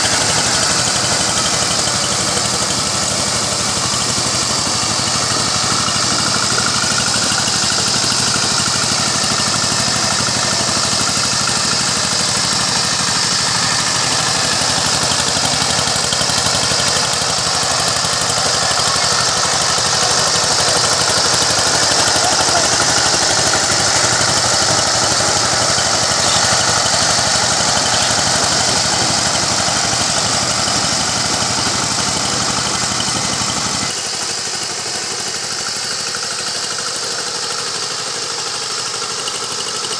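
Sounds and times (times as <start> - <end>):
power tiller engine running: 0.0 - 39.9.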